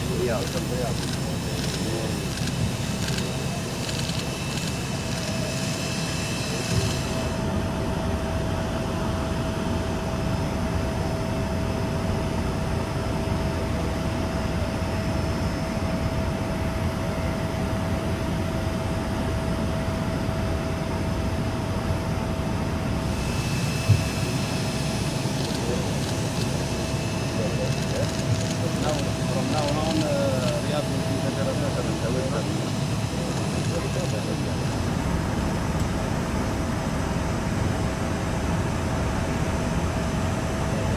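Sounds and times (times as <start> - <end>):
jet engines rumbling and whining: 0.0 - 40.9.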